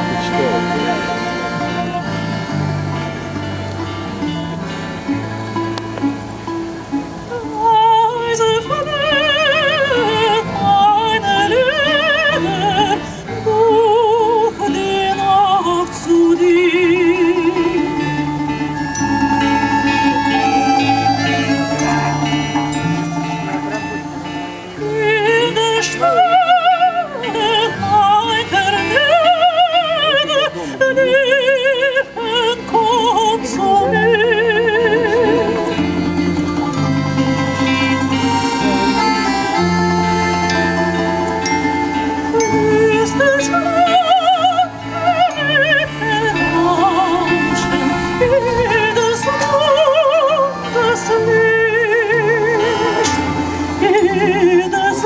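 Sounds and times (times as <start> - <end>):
instrumental accompaniment: 0.0 - 55.0
plucked folk strings: 0.0 - 55.0
soprano singing operatically: 7.0 - 55.0.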